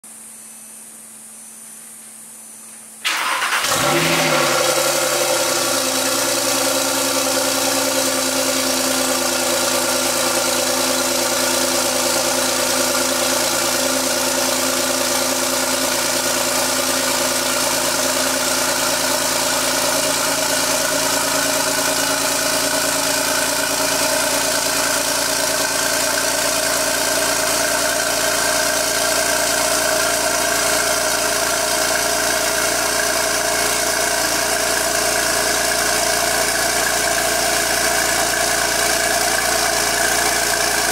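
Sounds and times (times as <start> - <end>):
car engine idling: 3.0 - 40.9.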